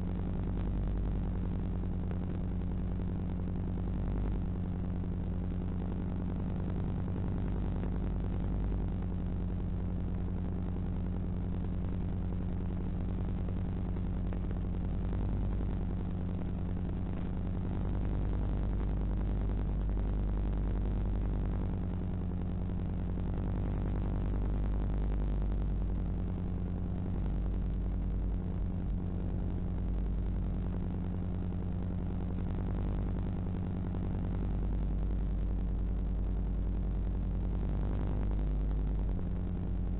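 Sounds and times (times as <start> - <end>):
low electrical hum with hiss: 0.0 - 39.9.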